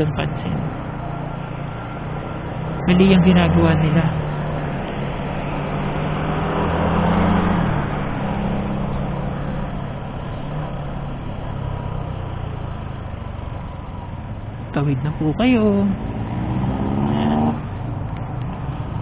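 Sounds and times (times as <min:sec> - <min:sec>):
bus passing: 0:00.0 - 0:19.0
wind and road noise: 0:00.0 - 0:19.0.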